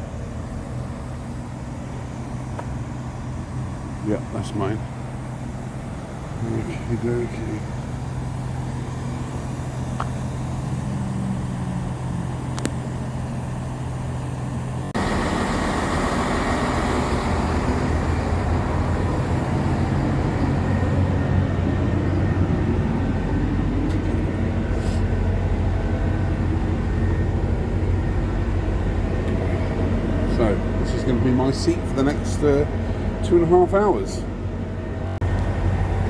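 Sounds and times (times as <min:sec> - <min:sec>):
train humming: 0:00.0 - 0:36.0.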